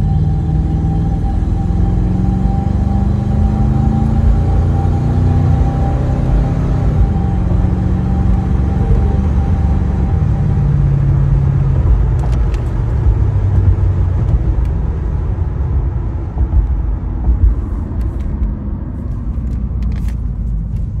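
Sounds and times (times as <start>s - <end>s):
car engine drone and road noise: 0.0s - 21.0s.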